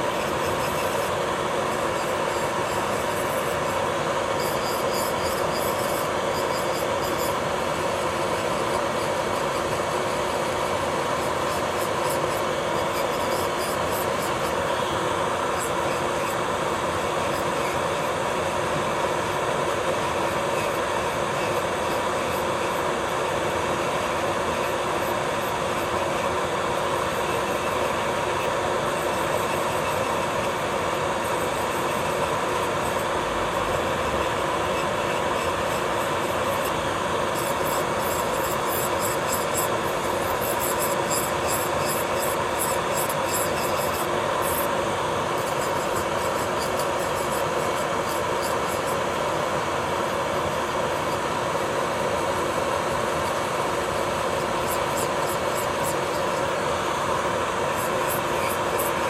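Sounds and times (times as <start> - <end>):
electric nail drill grinding: 0.0 - 59.0.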